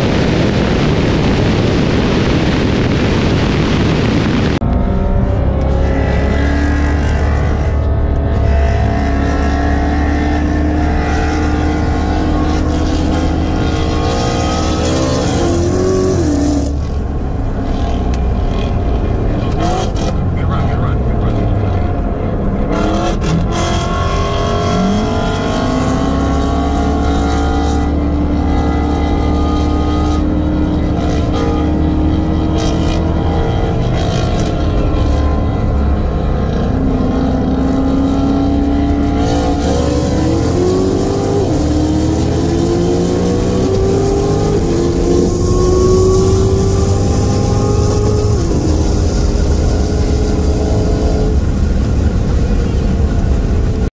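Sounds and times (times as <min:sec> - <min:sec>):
car engine accelerating: 0:00.0 - 0:53.9
road and wind noise: 0:00.0 - 0:53.9.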